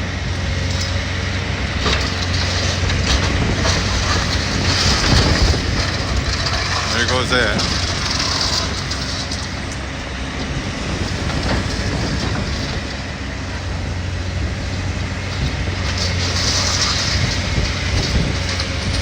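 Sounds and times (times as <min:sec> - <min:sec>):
debris clattering and rumbling: 0:00.0 - 0:19.0
diesel machinery engine hum: 0:00.0 - 0:19.0
wind noise on microphone: 0:00.3 - 0:09.2, 0:10.1 - 0:19.0.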